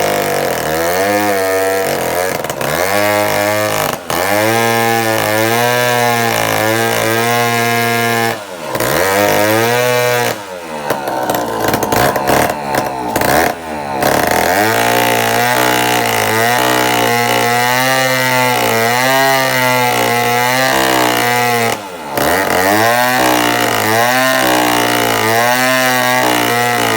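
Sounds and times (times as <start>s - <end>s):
two-stroke chainsaw engine running: 0.0s - 26.9s.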